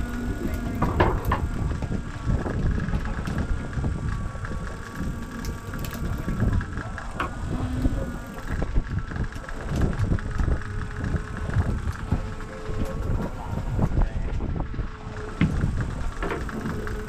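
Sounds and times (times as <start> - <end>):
boat engine idling: 0.0 - 17.0
wind buffeting microphone: 0.0 - 17.0.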